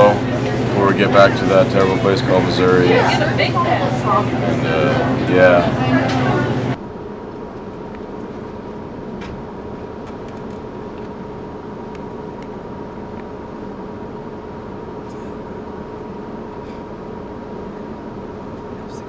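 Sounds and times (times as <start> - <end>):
bus cabin hum: 0.0 - 19.0.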